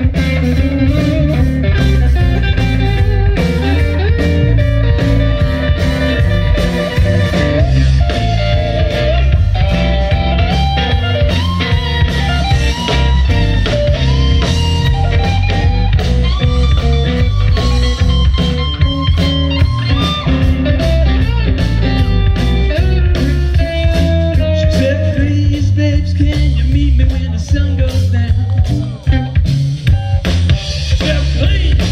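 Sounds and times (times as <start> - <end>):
lead electric guitar: 0.0 - 31.9
live blues band playing: 0.0 - 31.9.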